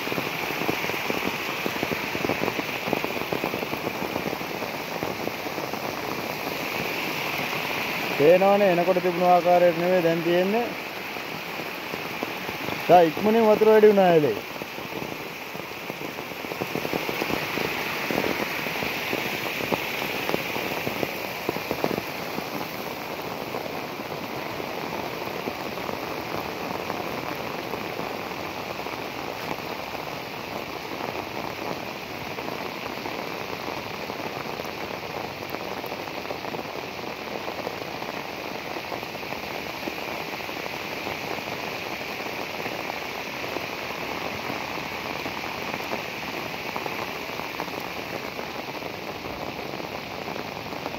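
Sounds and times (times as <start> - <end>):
floodwater channel rushing: 0.0 - 50.9
heavy rain on water: 0.0 - 50.9.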